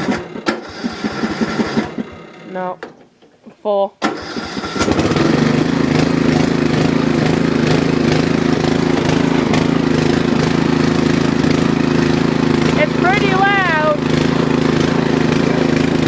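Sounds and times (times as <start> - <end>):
lawn mower engine running: 0.0 - 3.2, 4.0 - 16.0
lawn mower engine starting: 0.0 - 16.0.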